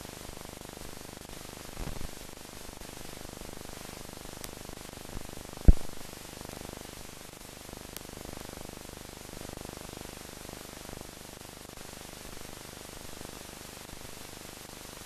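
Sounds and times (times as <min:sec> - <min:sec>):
film soundtrack hiss and static: 0:00.0 - 0:15.0.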